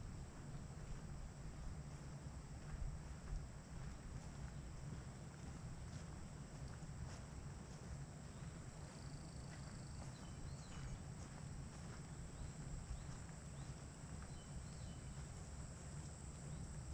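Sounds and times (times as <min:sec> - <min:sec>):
wind rumble on microphone: 0:00.0 - 0:16.9
footsteps on dirt path: 0:00.3 - 0:16.9.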